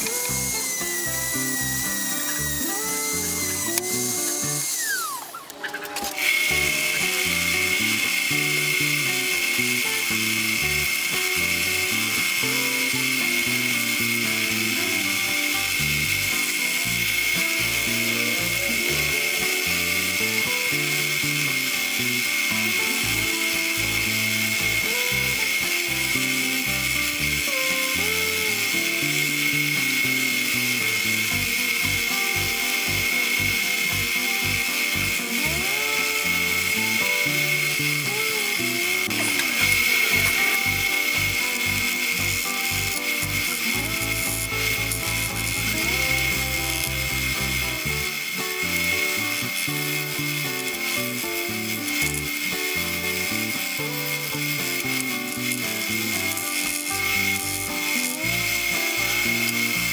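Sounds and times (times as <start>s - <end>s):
rotary tool grinding steel: 0.0s - 59.9s.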